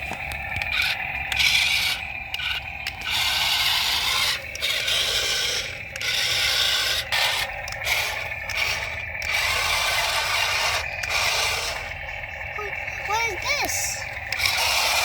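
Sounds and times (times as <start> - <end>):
toy motors whirring and grinding: 0.0 - 15.0.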